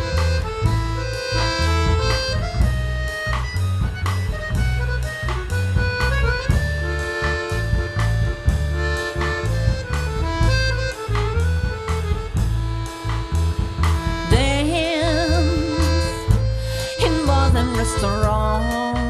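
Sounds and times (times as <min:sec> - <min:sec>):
accordion sustained notes: 0:00.0 - 0:19.0
double bass: 0:00.0 - 0:19.0
drums steady beat: 0:00.0 - 0:19.0.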